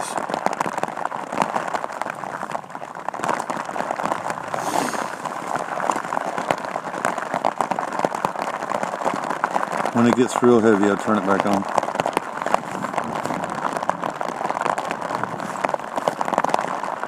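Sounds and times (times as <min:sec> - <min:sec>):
heavy rain on fabric cover: 0:00.0 - 0:17.0.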